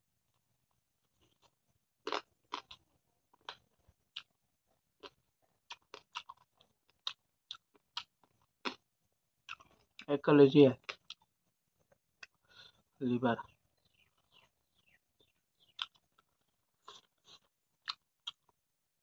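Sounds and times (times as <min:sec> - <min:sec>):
man chewing crunchy food: 0:00.3 - 0:10.1, 0:10.8 - 0:12.8, 0:13.8 - 0:18.7.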